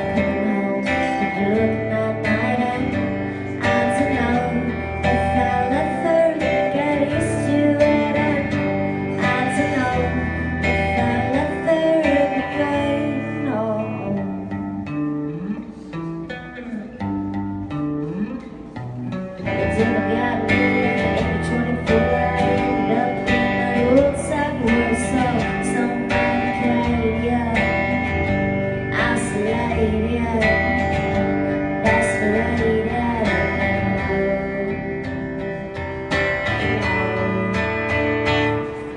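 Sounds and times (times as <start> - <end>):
person singing: 0.0 - 14.5, 19.5 - 38.9
live guitar music: 0.0 - 38.9.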